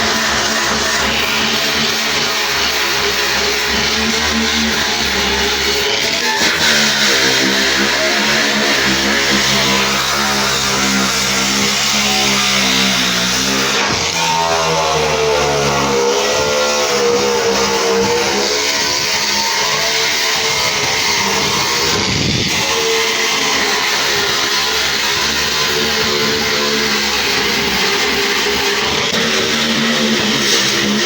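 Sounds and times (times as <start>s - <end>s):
angle grinder wire brush on metal: 0.0s - 31.0s.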